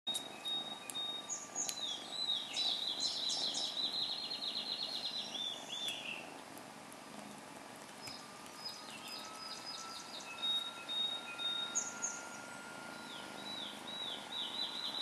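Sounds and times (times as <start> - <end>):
songbird trilling: 0.1 - 6.3, 8.0 - 15.0
faint background noise: 0.1 - 15.0.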